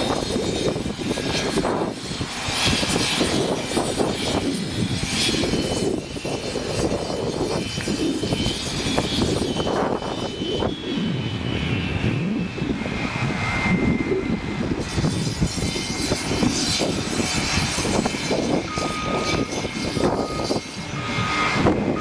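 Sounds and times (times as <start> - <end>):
diesel engine running under load: 0.0 - 22.0
faint high whine: 0.0 - 22.0.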